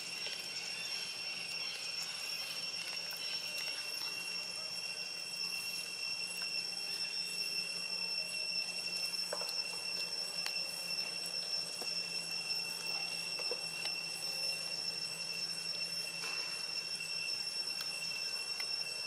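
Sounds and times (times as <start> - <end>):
high-pitched two-tone whine: 0.0 - 19.0.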